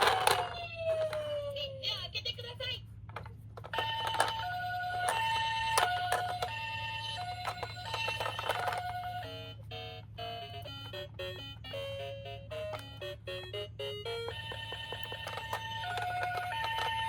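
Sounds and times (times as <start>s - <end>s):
toy ambulance two-tone siren: 0.0s - 2.0s, 3.6s - 17.0s.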